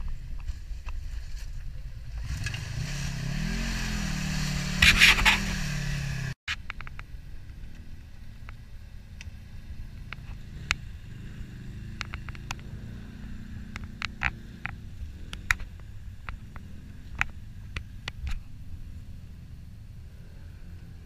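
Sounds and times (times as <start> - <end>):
quad bike engine under load: 0.8 - 21.0.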